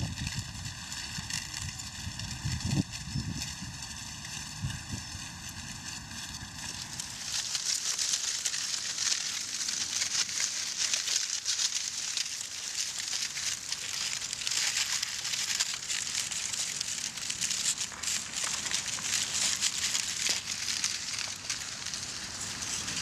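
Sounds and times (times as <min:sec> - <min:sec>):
aluminium foil crumpling: 0:00.0 - 0:23.0.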